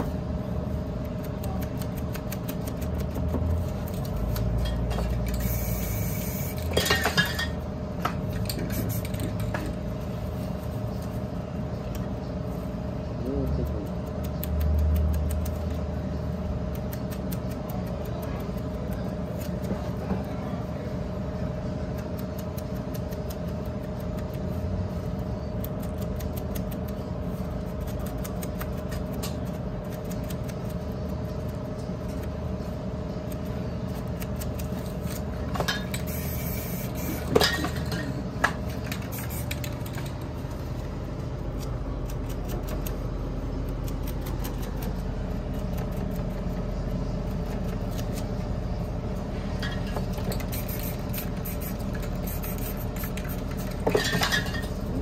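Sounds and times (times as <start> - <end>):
low motor hum: 0.0 - 55.0.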